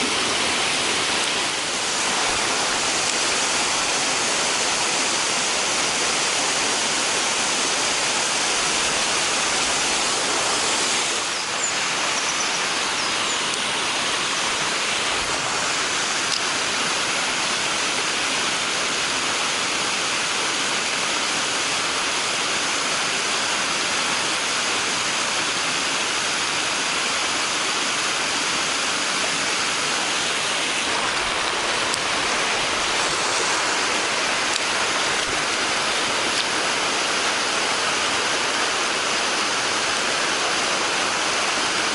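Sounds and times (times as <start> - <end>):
stream water rushing over rocks: 0.0 - 41.9.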